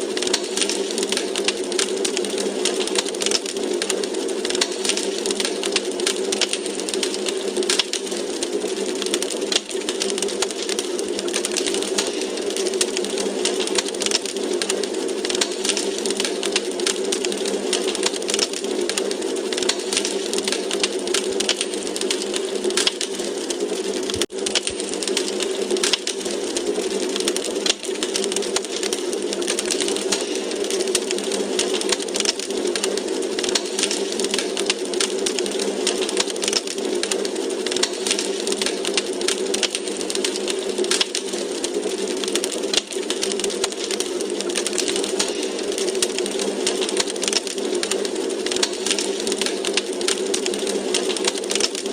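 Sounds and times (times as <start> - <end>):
hiss of burning logs: 0.0 - 51.9
wood fire crackling: 0.0 - 51.9.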